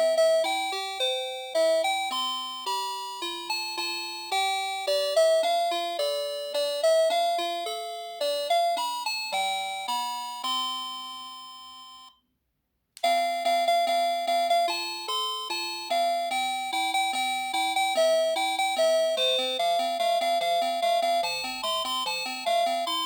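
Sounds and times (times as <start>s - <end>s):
electronic doorbell chime melody: 0.0s - 12.2s, 13.0s - 23.0s.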